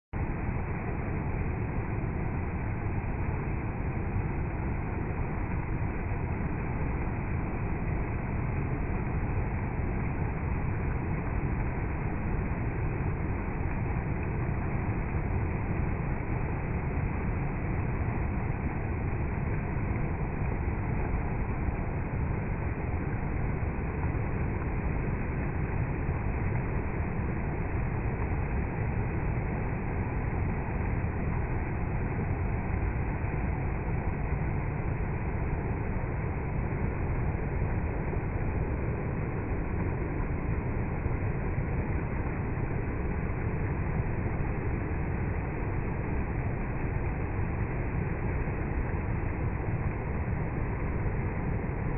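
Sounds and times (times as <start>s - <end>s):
water flowing: 0.2s - 51.9s.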